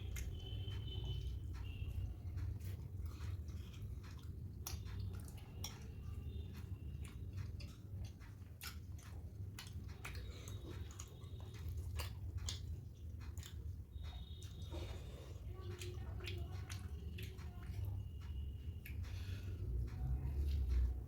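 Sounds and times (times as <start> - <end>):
mouth chewing: 0.0 - 21.0.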